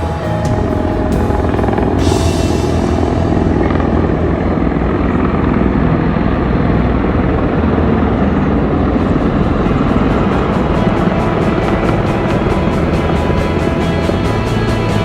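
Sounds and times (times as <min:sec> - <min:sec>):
aircraft engine rumble: 0:00.0 - 0:15.0.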